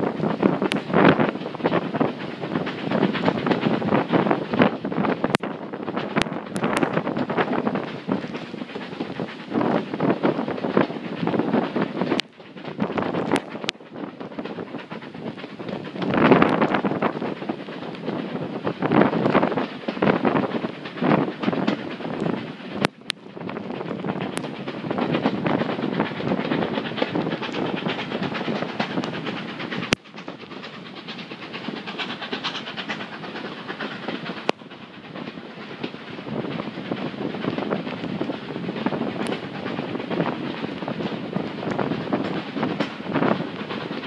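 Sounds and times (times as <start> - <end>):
train wheels clattering: 0.0 - 44.0
wind buffeting microphone: 0.0 - 44.0.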